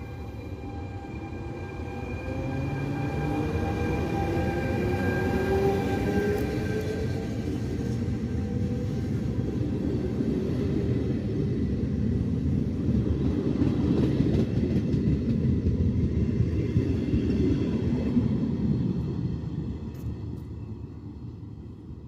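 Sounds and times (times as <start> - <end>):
train wheels rumbling on rails: 0.0 - 21.8.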